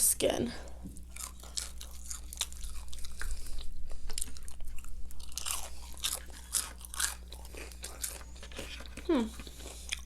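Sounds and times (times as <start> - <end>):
crunchy chicken skin chewing: 0.9 - 10.0.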